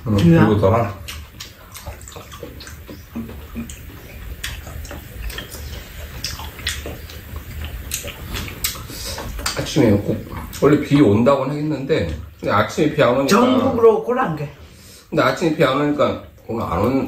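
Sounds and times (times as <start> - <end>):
wet chewing: 0.0 - 13.9
rain falling outside: 0.0 - 17.0.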